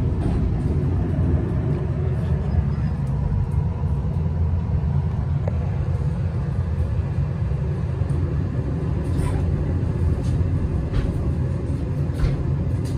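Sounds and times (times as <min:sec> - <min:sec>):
bus road and tyre rumble: 0:00.0 - 0:12.9.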